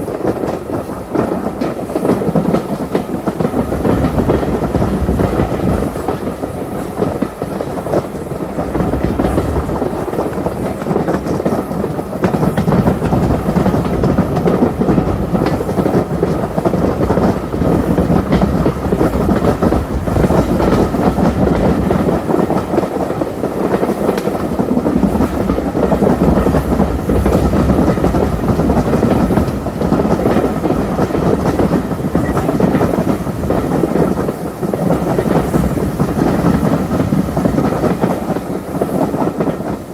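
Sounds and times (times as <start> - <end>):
clickety-clack over rail joints: 0.0 - 39.9
train wheels rumbling on track: 0.0 - 39.9.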